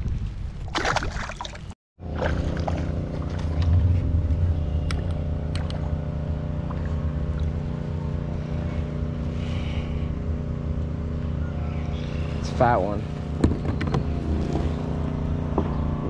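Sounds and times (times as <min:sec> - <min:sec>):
boat motor humming: 0:02.0 - 0:16.0.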